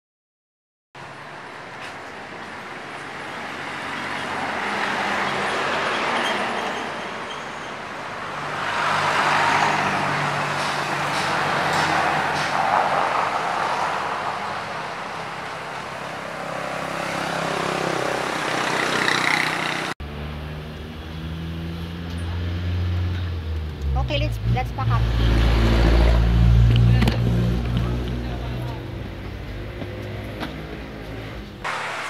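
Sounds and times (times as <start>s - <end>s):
vehicles passing: 1.0s - 32.0s.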